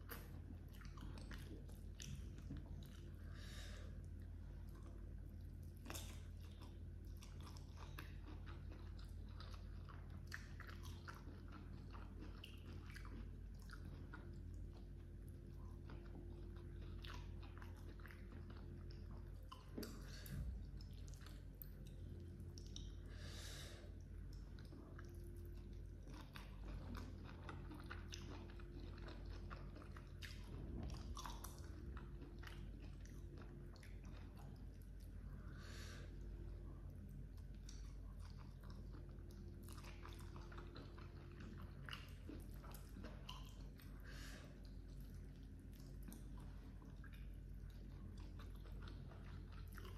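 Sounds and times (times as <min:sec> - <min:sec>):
mouth chewing with wet clicks: 0:00.0 - 0:03.2, 0:04.0 - 0:23.2, 0:24.0 - 0:49.9
steady low hum: 0:00.0 - 0:49.9.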